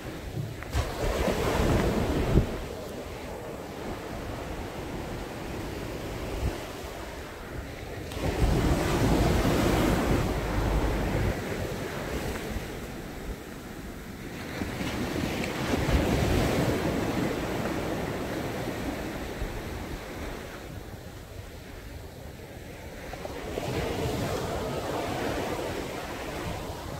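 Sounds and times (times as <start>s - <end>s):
sea waves breaking on beach: 0.0s - 26.9s
wind buffeting microphone: 0.0s - 26.9s.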